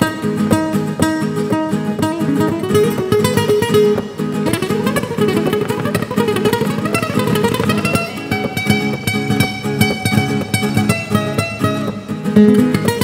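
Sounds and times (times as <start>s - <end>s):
flamenco guitars strumming: 0.0s - 13.0s.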